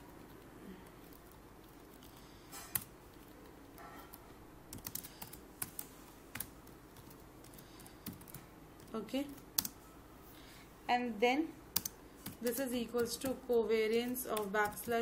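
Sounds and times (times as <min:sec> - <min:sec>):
faint keyboard typing: 0:00.0 - 0:09.8, 0:11.7 - 0:15.0.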